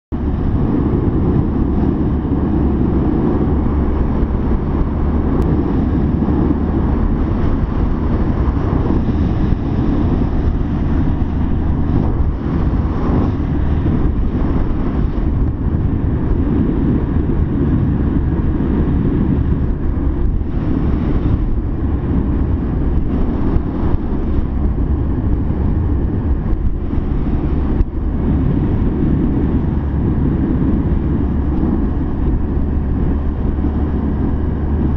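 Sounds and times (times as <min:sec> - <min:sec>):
motorcycle engine: 0:00.1 - 0:34.9
wind buffeting microphone: 0:00.1 - 0:34.9.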